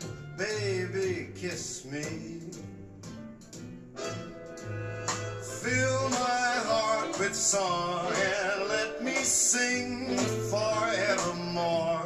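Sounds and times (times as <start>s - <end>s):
song through speakers: 0.0s - 12.0s.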